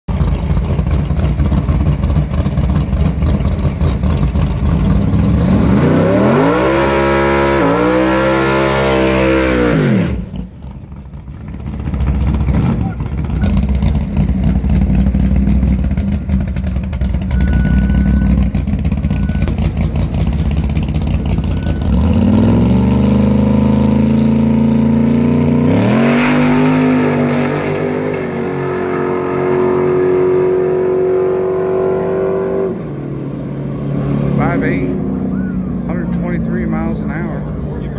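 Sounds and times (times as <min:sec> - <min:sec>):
drag car engine revving: 0:00.1 - 0:37.9.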